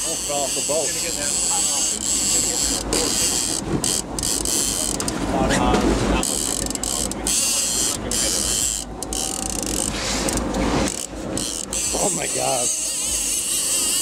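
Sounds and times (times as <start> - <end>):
fishing reel drag buzzing: 0.0 - 5.0, 6.2 - 14.0.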